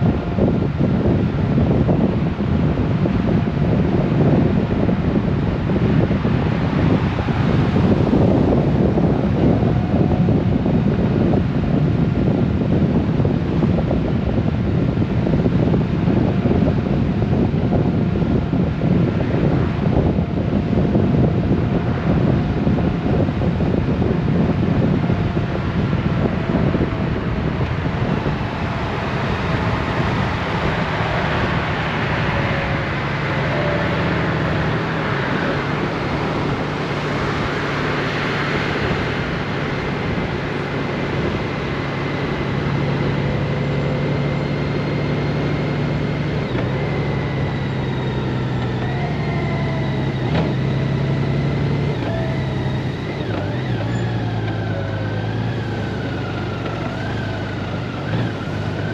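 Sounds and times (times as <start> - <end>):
motorcycle engine hum: 0.0 - 58.9
wind rushing over microphone: 0.0 - 58.9.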